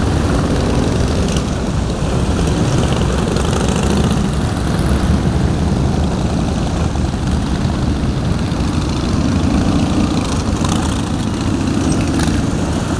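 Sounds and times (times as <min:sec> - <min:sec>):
motorcycles riding past: 0:00.0 - 0:12.9.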